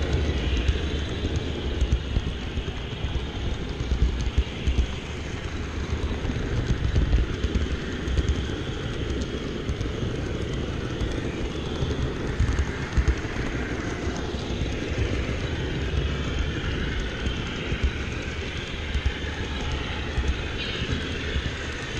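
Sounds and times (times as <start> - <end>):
model train rumbling on track: 0.0 - 21.9
wheels clicking on rails: 0.0 - 21.9.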